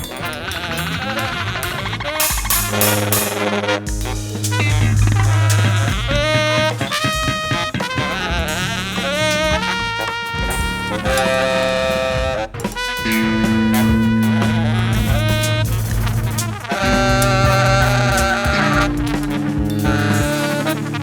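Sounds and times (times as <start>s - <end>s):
drums: 0.0s - 21.0s
electric bass: 0.0s - 21.0s
electric piano: 0.0s - 21.0s
saxophone: 0.0s - 21.0s
trumpet: 0.0s - 21.0s.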